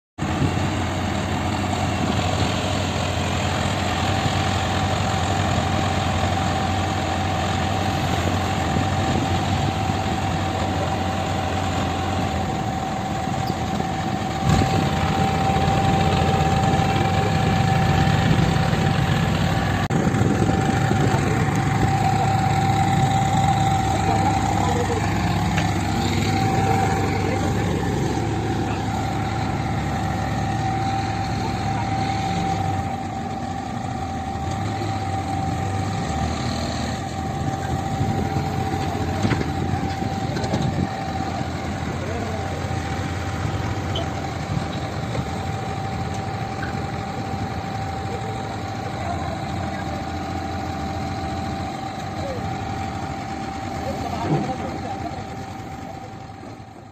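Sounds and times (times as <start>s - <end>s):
heavy diesel engines running: 0.2s - 56.9s
steady high whine: 0.4s - 56.7s.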